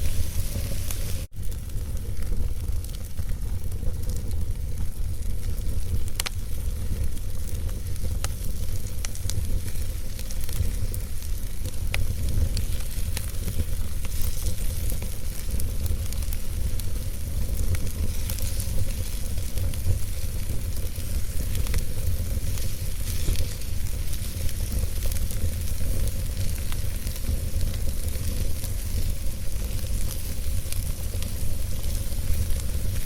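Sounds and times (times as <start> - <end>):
fire flames rumbling and hissing: 0.0 - 33.0
wood crackling and popping: 0.0 - 33.0.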